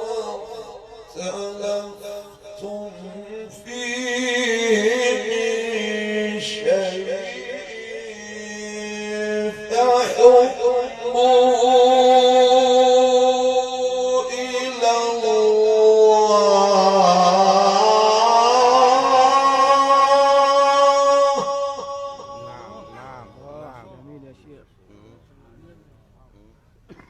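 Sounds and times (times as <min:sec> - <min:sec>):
man chanting melodically: 0:00.0 - 0:26.7.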